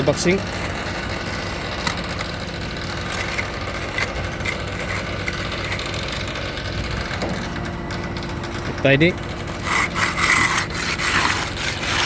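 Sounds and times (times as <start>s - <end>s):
engine idling: 0.0s - 12.0s
tool scraping timber: 0.0s - 12.0s.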